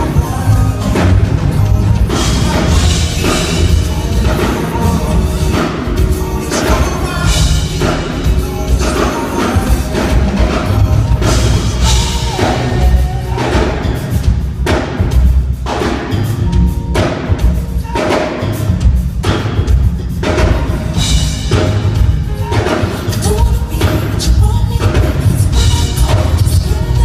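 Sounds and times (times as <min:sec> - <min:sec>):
heavy bass and drums: 0:00.0 - 0:27.0
live band playing loud music: 0:00.0 - 0:27.0.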